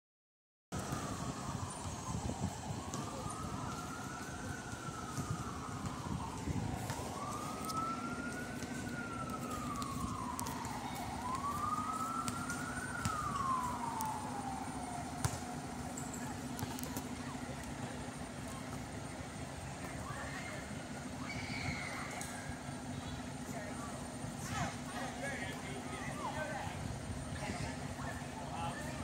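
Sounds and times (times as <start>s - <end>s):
fire truck siren wailing: 0.8s - 29.0s.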